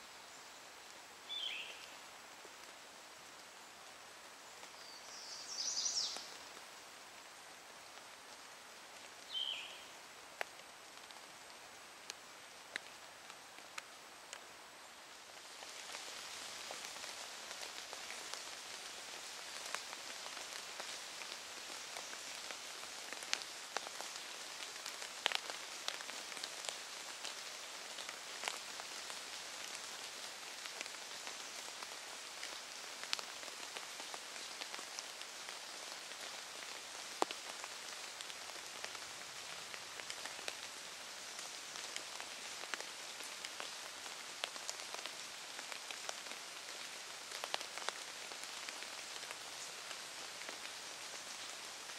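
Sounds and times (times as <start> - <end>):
rain pattering on wet leaves: 0.0 - 51.9.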